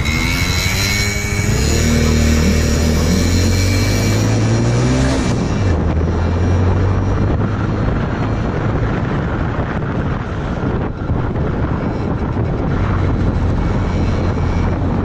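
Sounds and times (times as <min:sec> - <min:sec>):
motorcycle engine accelerating: 0:00.0 - 0:15.0
wind and road rush: 0:00.0 - 0:15.0.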